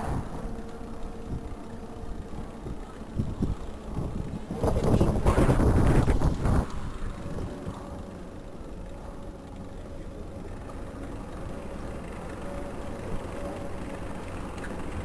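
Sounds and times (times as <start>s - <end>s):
electric bike rolling: 0.0s - 15.0s
faint steady whine: 0.0s - 15.0s
street traffic rumble: 0.0s - 15.0s.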